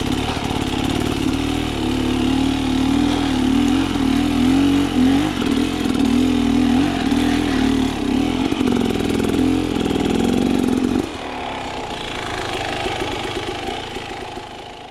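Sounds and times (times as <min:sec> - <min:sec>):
two-stroke engine revving: 0:00.0 - 0:14.9.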